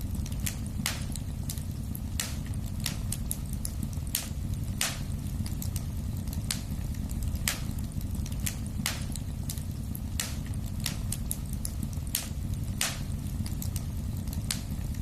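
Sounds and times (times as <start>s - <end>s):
fire crackling and popping: 0.0s - 15.0s
rumble of fire flames: 0.0s - 15.0s.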